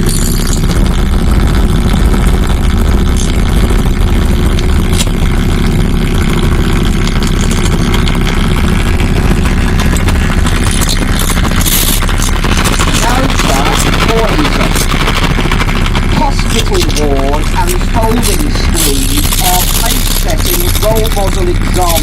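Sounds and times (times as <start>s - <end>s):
crackling noise: 0.0s - 22.0s
electronic noise drone: 0.0s - 22.0s.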